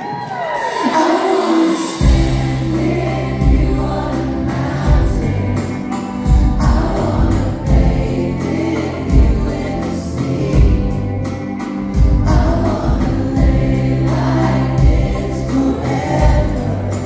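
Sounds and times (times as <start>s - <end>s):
live pop band: 0.0s - 17.0s
man singing: 0.9s - 11.2s, 12.3s - 17.0s.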